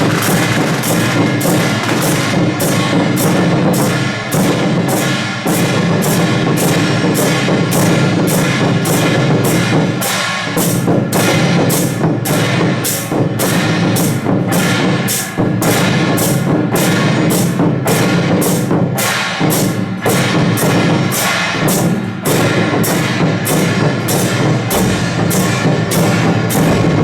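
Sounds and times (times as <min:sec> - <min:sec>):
crashing metal percussion: 0:00.0 - 0:27.0
drums playing: 0:00.0 - 0:27.0.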